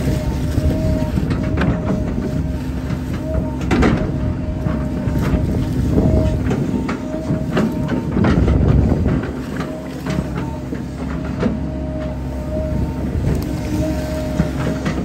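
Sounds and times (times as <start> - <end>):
excavator diesel engine rumble: 0.0 - 15.0
hydraulic whine: 0.0 - 15.0.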